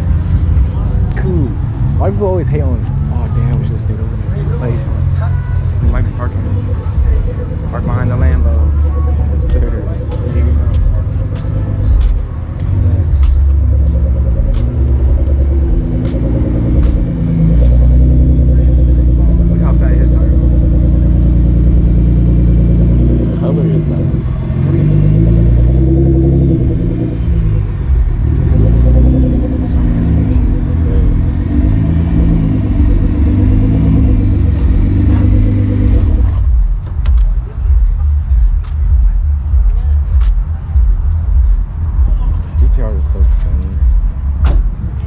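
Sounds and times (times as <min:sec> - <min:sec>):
car engine running at low revs: 0:00.0 - 0:45.0.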